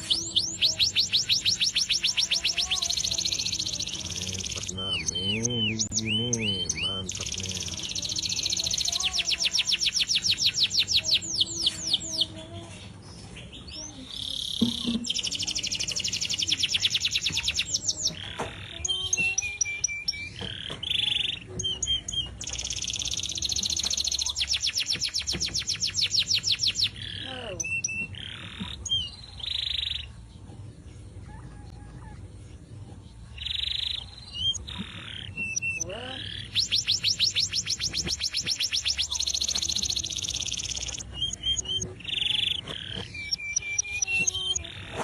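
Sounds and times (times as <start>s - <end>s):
canary singing trills: 0.0s - 45.0s.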